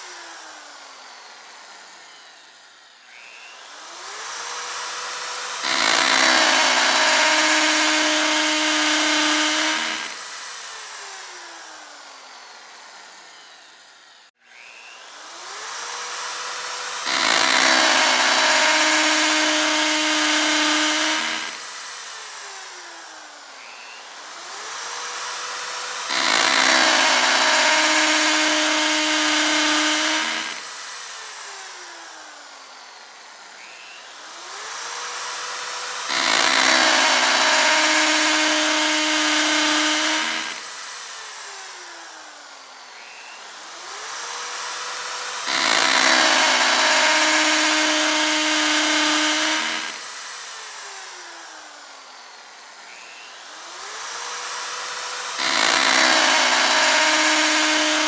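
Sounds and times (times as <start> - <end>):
power drill whining and drilling: 0.0 - 58.0.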